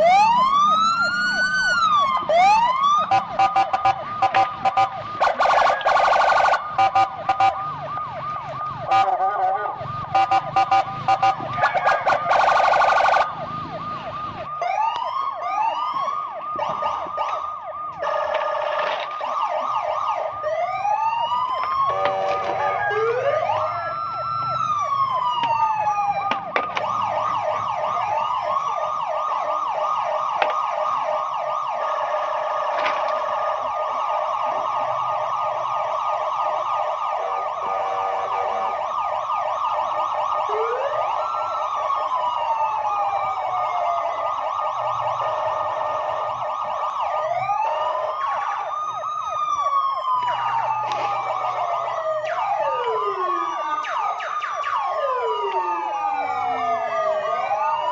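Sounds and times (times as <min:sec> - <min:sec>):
electronic siren yelping and wailing: 0:00.0 - 0:57.9.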